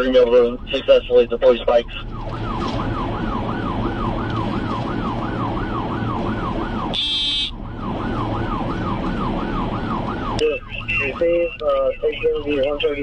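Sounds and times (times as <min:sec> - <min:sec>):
engine and road noise: 0:00.0 - 0:13.0
police siren yelping: 0:01.5 - 0:13.0.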